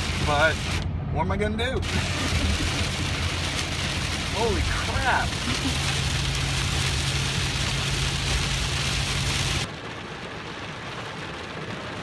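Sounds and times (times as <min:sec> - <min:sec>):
heavy rain on truck cab: 0:00.0 - 0:00.9, 0:01.8 - 0:12.0
engine hum: 0:00.0 - 0:09.7
road rumble: 0:00.0 - 0:12.0.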